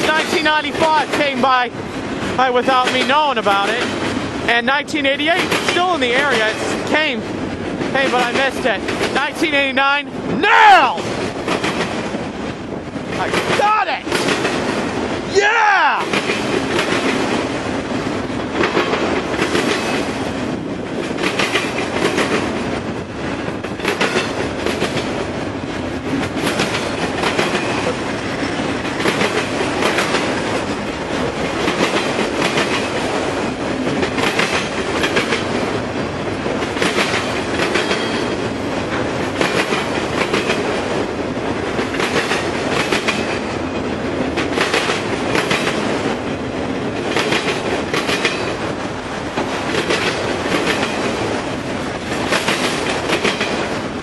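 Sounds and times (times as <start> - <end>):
clickety-clack over rail joints: 0.0 - 15.3, 15.9 - 54.0
train wheels rumbling on rails: 0.0 - 54.0.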